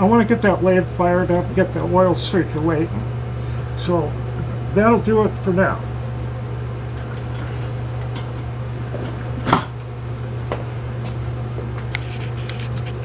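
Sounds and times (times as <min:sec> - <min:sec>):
workshop low hum: 0:00.0 - 0:13.0.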